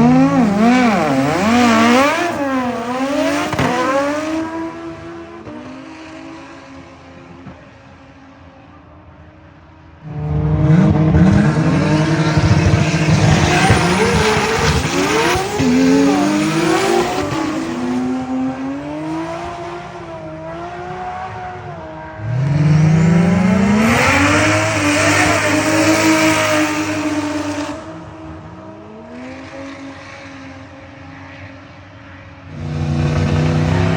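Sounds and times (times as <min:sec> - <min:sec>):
car engine accelerating: 0:00.0 - 0:07.6, 0:10.0 - 0:29.8, 0:32.5 - 0:33.9.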